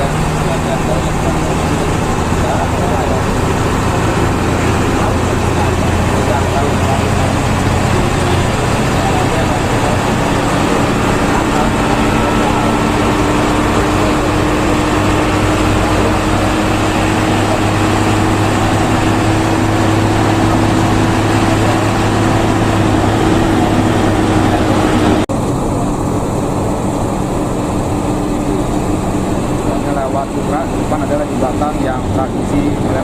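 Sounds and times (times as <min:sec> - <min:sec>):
bus engine drone: 0:00.0 - 0:33.0
road noise: 0:00.0 - 0:33.0.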